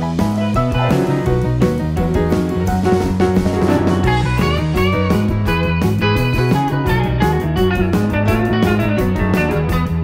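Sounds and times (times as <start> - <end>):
guitar instrumental with steady beat: 0.0 - 10.0.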